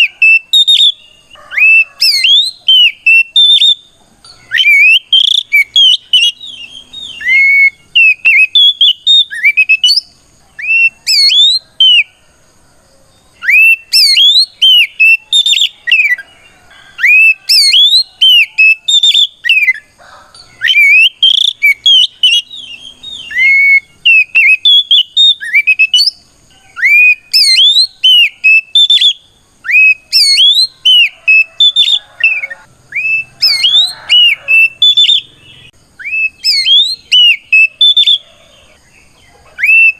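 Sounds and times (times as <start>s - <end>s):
bird singing whistled notes: 0.0s - 12.2s, 13.2s - 39.9s.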